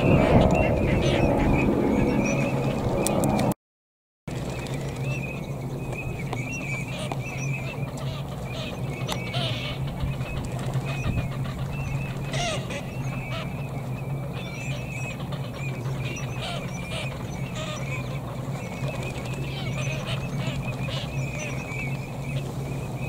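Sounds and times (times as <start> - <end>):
ducks calling: 0.0 - 3.5, 4.4 - 23.0
steady low hum: 4.3 - 23.0.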